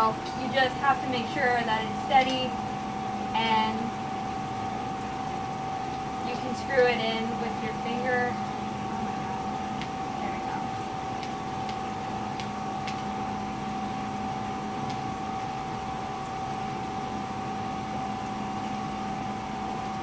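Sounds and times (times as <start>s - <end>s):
ventilation hum: 0.0s - 20.0s.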